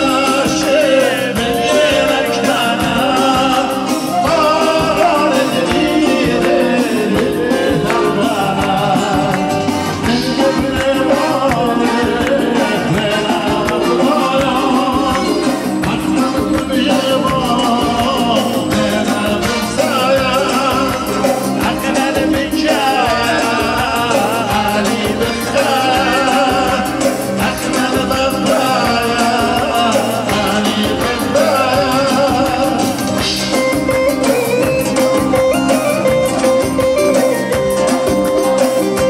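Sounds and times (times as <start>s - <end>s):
electronic keyboard and guitar: 0.0s - 39.0s
man singing into microphone: 0.0s - 39.0s.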